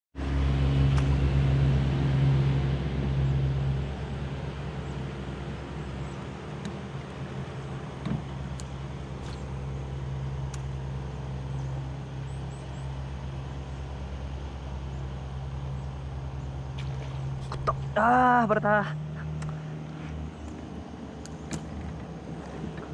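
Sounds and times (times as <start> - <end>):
small boat motor humming: 0.2 - 22.9.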